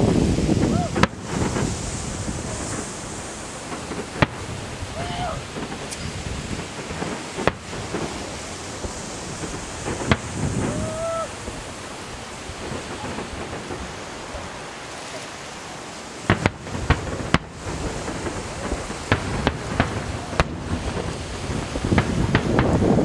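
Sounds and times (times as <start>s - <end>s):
fireworks bangs and cracks: 0.0s - 23.0s
rumbling hiss: 0.0s - 23.0s.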